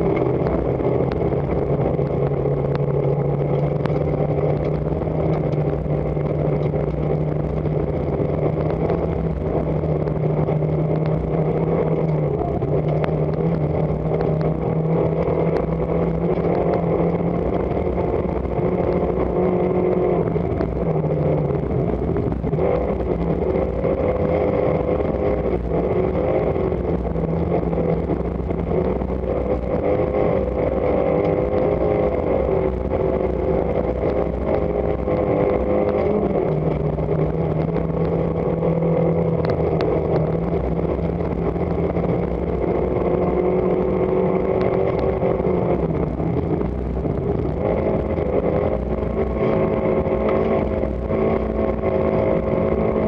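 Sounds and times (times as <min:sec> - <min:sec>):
rally car engine under load: 0:00.0 - 0:53.0
road and tyre noise: 0:00.0 - 0:53.0.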